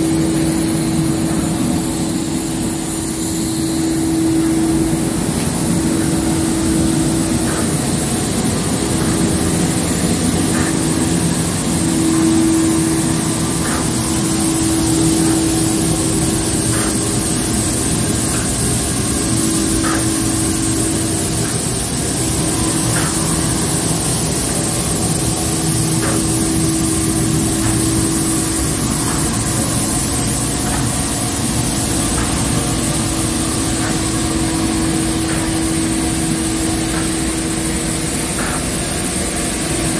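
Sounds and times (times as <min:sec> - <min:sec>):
machine hum: 0:00.0 - 0:39.9
pneumatic spray guns hissing: 0:00.0 - 0:39.9.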